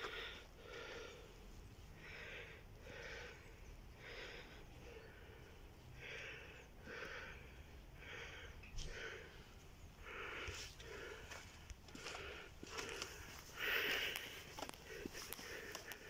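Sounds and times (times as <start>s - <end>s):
person breathing: 0.0s - 16.0s.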